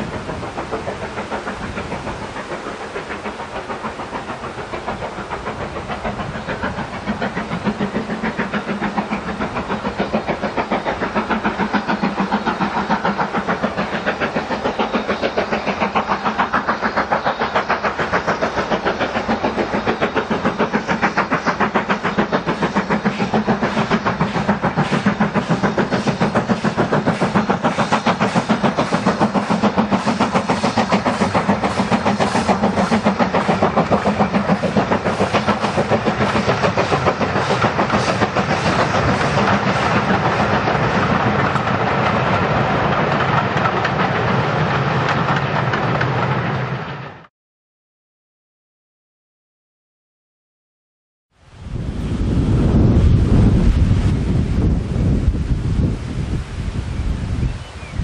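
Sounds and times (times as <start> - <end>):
steam locomotive exhaust beats: 0.0 - 47.3, 51.5 - 58.0.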